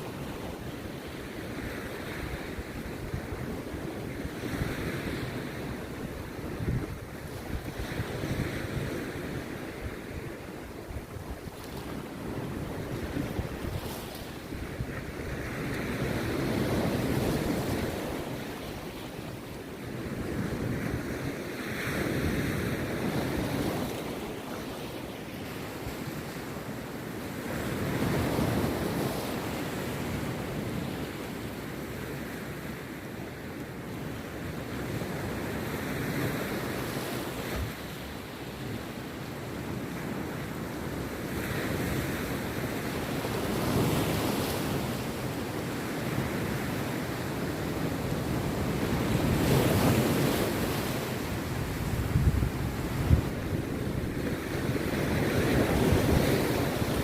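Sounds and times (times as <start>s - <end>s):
wind on the microphone: 0.0s - 32.9s, 33.8s - 57.0s
surf breaking on a beach: 0.0s - 57.0s.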